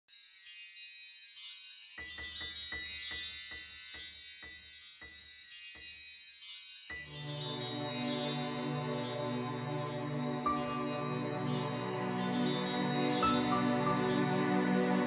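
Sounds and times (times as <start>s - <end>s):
shimmering wind-chime-like music: 0.0s - 15.0s.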